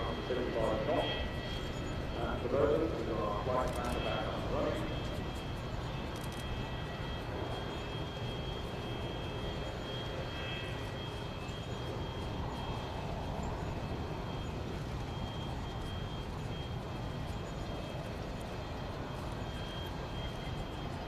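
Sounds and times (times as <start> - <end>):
faint high engine whine: 0.0 - 21.0
jet engines rumbling overhead: 0.0 - 21.0.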